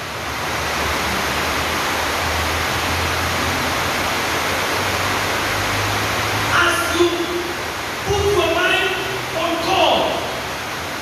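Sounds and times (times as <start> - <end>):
loud steady hiss: 0.0 - 11.0.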